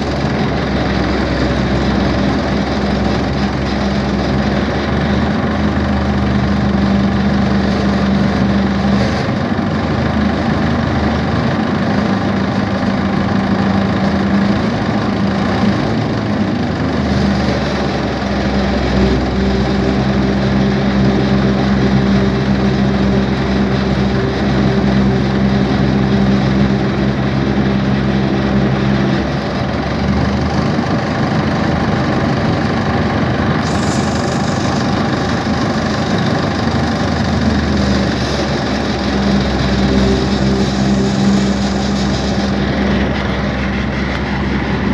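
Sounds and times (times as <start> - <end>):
tractor diesel engine droning: 0.0 - 44.9.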